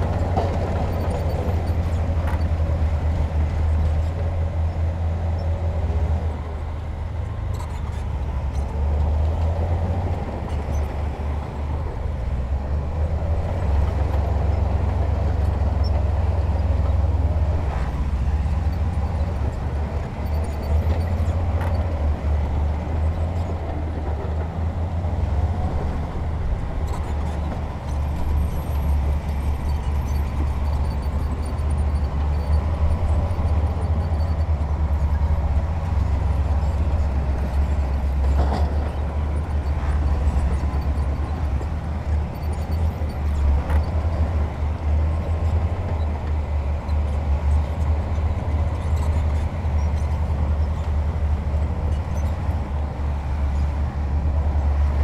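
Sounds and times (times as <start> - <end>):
heavy diesel engine rumbling: 0.0 - 55.0.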